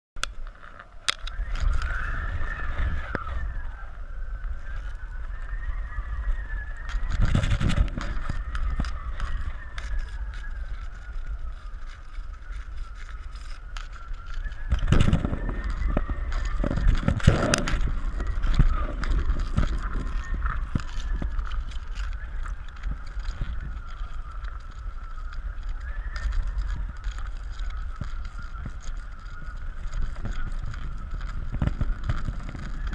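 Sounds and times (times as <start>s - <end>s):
wind buffeting microphone: 0.2s - 32.9s
wavering whistle-like tone: 0.6s - 32.9s.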